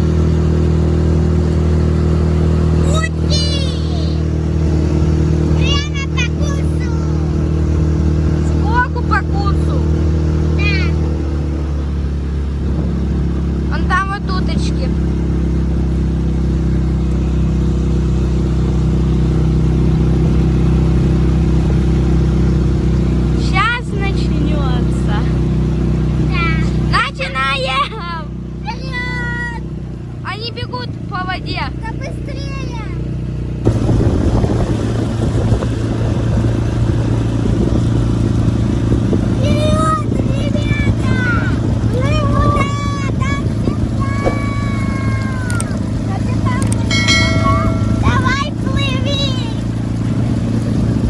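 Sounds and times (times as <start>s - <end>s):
water rushing: 0.0s - 31.1s, 33.6s - 51.0s
small outboard motor running: 0.0s - 51.0s.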